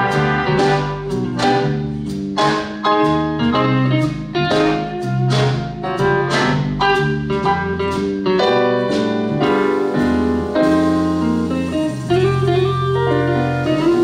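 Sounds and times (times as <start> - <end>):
big band playing: 0.0 - 14.0
piano: 0.0 - 14.0.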